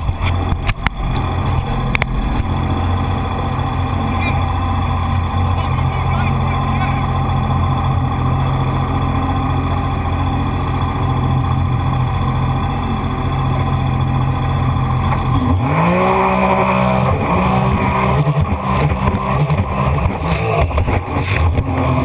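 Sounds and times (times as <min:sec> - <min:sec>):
jet ski engine revving: 0:00.0 - 0:22.0.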